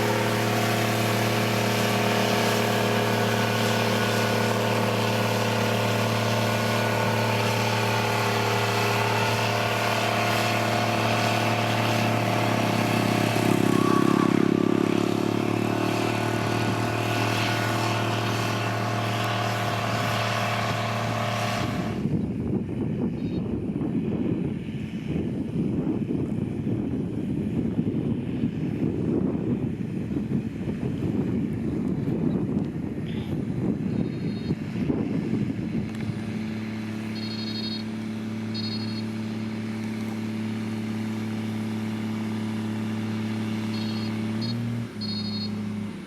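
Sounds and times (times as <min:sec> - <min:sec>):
diesel engine droning: 0:00.0 - 0:46.0.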